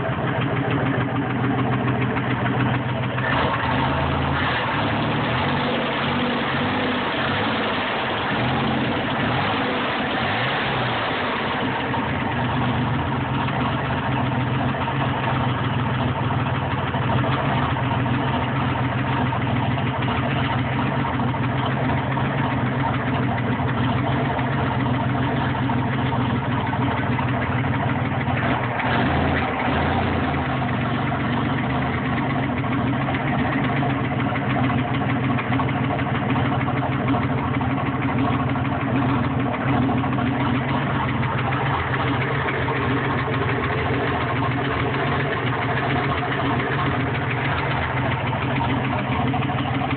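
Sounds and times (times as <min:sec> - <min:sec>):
engine idling with knocking noise: 0:00.0 - 0:49.9.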